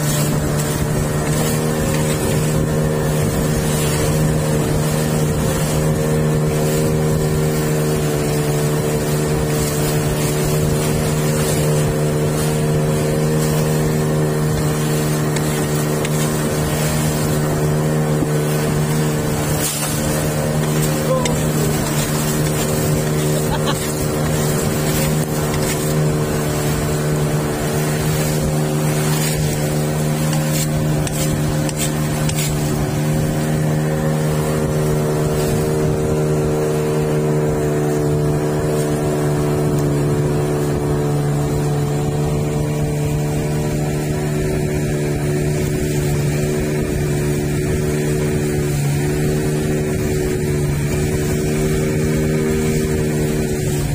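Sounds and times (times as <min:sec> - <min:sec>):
outboard motor droning: 0:00.0 - 0:53.9
water rushing along hull: 0:00.0 - 0:53.9.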